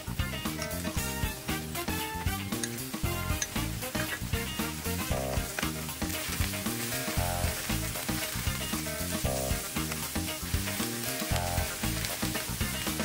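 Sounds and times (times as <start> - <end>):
background music: 0.0 - 13.0
chicken sizzling in oil: 0.0 - 13.0
metal spoon stirring in pan: 1.8 - 13.0.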